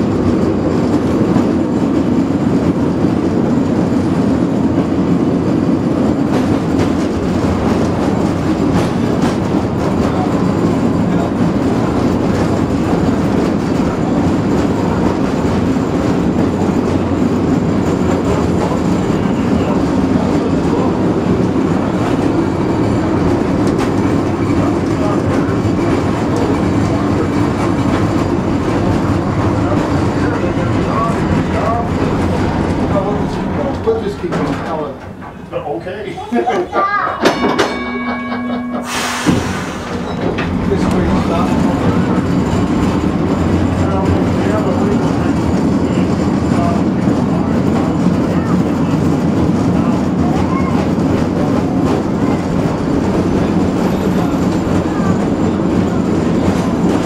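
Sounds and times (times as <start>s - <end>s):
steel wheels rolling on rail: 0.0s - 57.0s.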